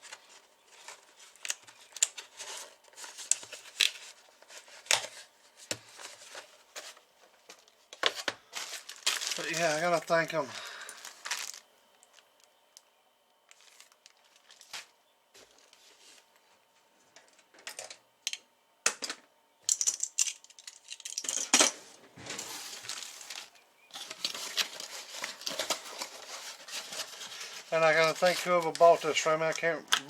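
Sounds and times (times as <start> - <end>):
packaging rustling and crinkling: 0.0 - 12.5, 13.4 - 16.6, 20.4 - 30.0.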